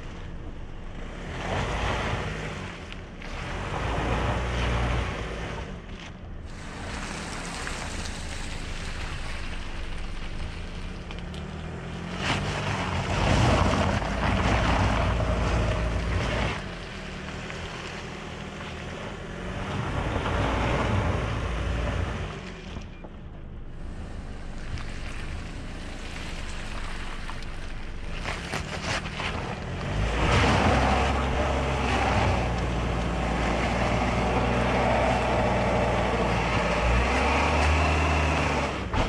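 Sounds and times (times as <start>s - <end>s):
car engine under load: 0.0s - 39.0s
tyres on loose gravel: 5.9s - 39.0s.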